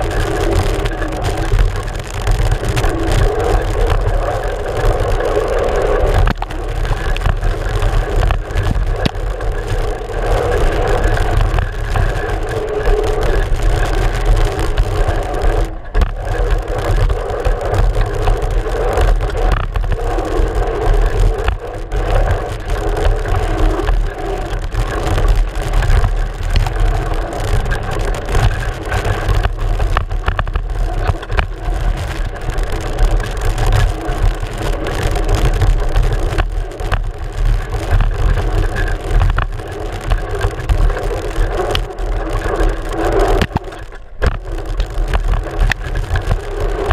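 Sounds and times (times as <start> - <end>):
wind and tyre noise: 0.0 - 46.9.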